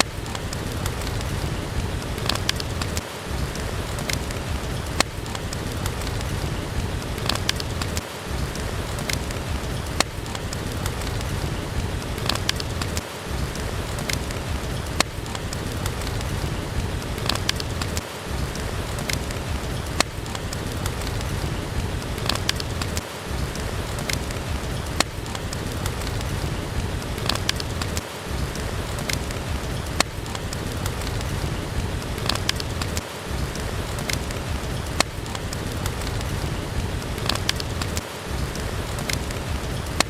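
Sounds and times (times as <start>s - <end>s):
crackling wood fire: 0.0s - 40.0s
rain hiss: 0.0s - 40.0s.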